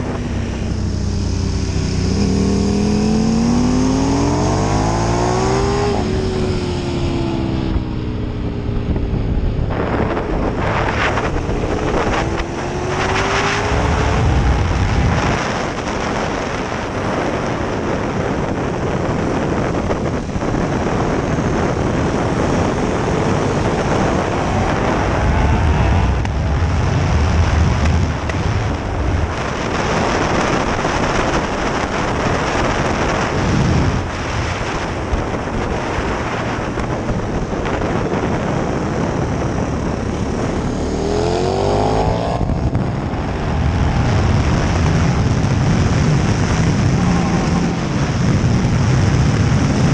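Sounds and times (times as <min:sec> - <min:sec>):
motorcycle engine accelerating: 0:00.0 - 0:49.9
wind rush: 0:00.0 - 0:49.9.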